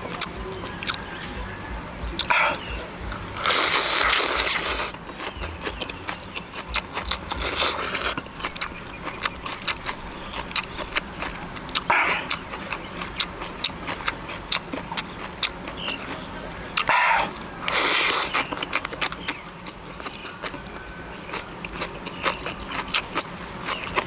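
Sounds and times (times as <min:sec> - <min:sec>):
loud chewing crunches: 0:00.0 - 0:24.0
chewing clicks: 0:00.1 - 0:01.1, 0:03.4 - 0:24.0.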